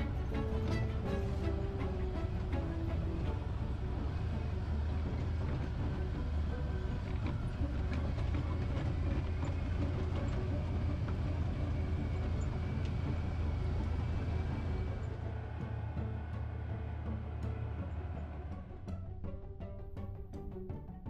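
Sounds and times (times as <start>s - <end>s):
vehicle engine running: 0.0s - 20.4s.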